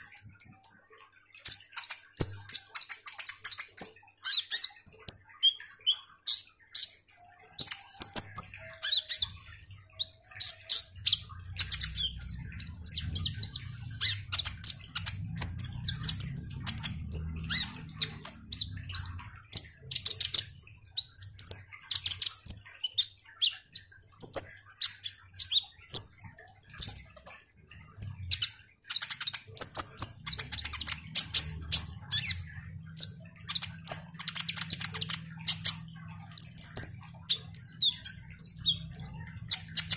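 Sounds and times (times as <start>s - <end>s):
sunbird singing: 7.9s - 39.9s.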